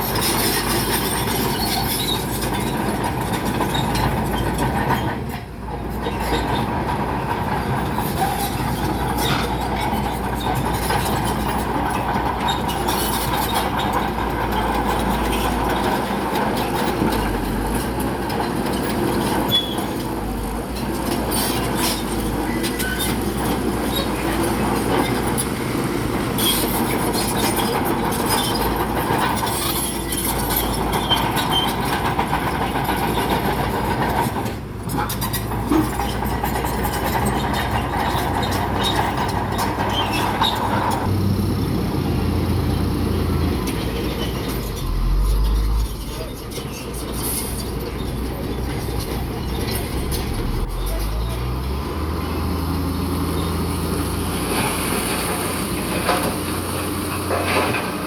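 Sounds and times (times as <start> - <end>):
bulldozer diesel engine running: 0.0 - 58.0
metal tracks clanking: 0.0 - 58.0.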